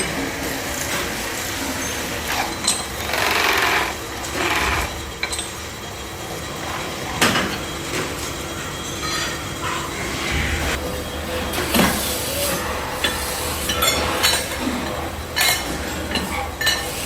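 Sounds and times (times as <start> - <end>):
workshop machinery clatter: 0.0 - 17.0.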